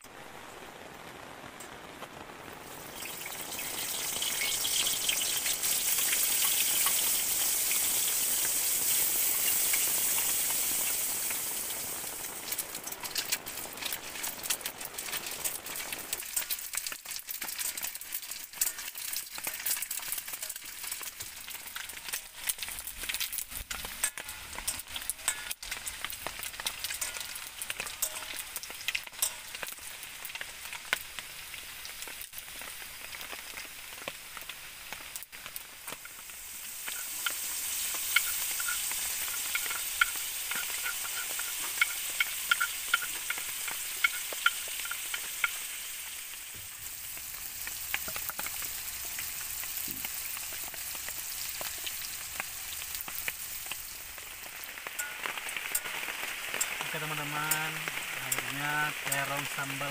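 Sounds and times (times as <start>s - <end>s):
eggplant sizzling in hot oil: 0.0s - 59.9s
oil crackling and popping: 0.0s - 59.9s.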